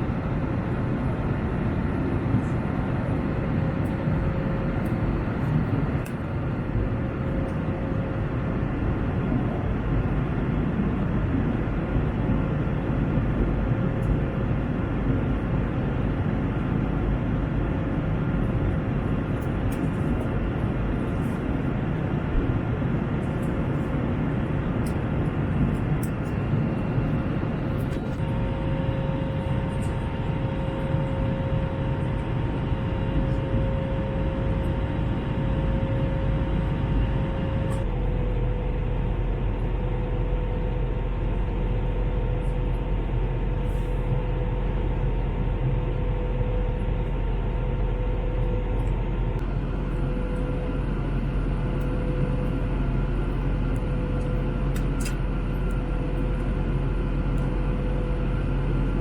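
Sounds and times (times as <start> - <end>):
faint steady hum: 0.0 - 59.0
jet engine roar in cabin: 0.0 - 59.0.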